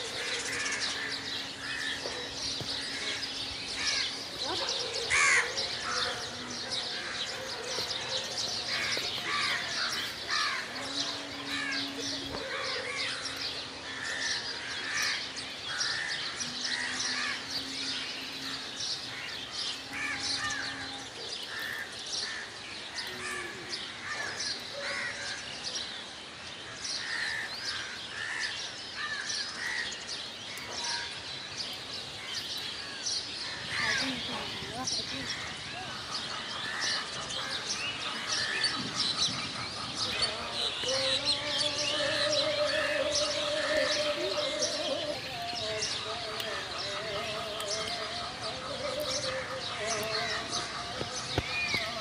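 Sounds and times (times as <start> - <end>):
birds chirping and calling: 0.0 - 52.0.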